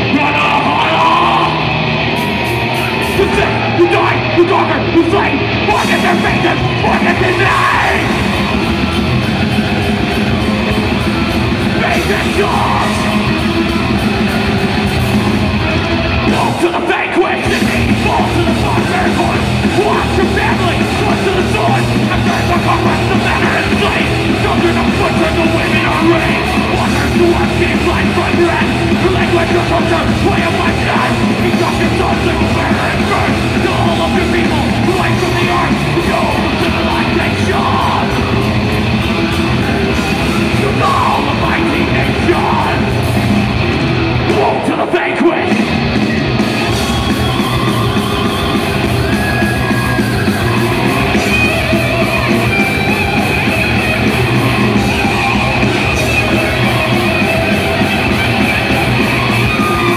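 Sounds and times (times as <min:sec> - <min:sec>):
thrash metal band playing live: 0:00.0 - 0:59.9.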